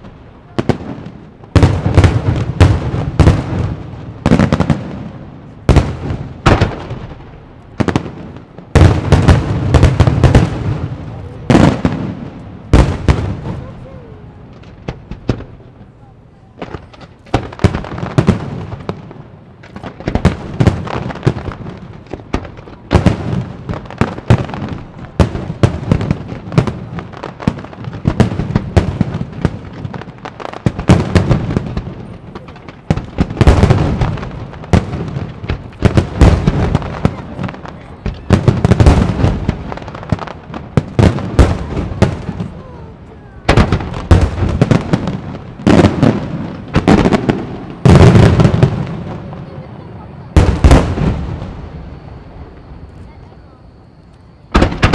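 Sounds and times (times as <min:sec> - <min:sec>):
fireworks bursting with echoes: 0:00.0 - 0:54.9.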